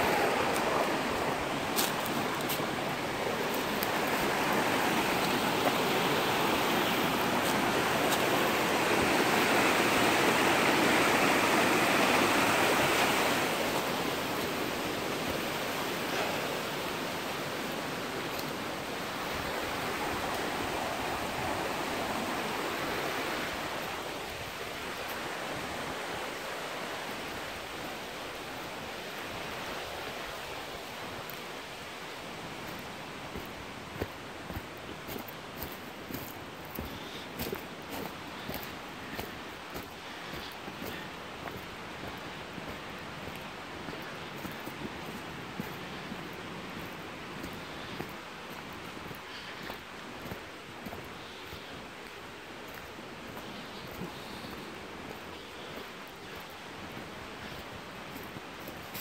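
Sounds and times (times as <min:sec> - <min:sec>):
rushing creek water: 0:00.0 - 0:59.0.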